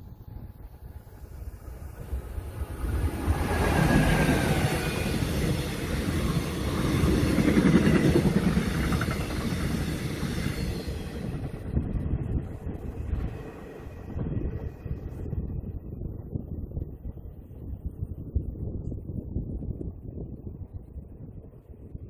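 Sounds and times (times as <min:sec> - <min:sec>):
train wheels rumbling on rails: 0:00.0 - 0:21.5.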